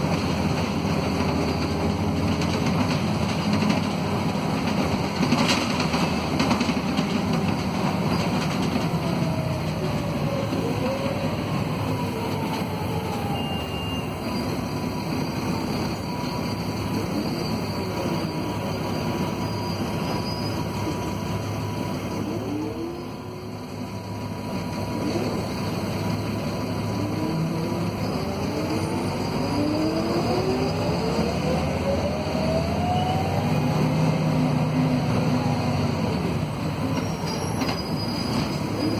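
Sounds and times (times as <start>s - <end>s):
bus diesel engine accelerating: 0.0s - 38.9s.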